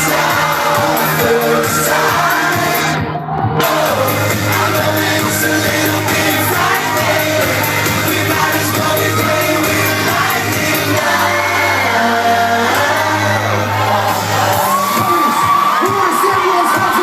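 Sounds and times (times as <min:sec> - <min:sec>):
crowd shouting along: 0:00.0 - 0:17.0
live pop band with singing: 0:00.0 - 0:17.0.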